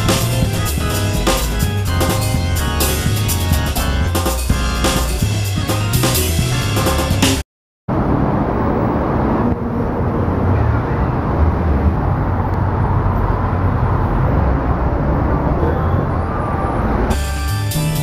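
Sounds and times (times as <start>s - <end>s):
passers-by: 0.0s - 18.0s
road traffic rumble: 0.0s - 18.0s.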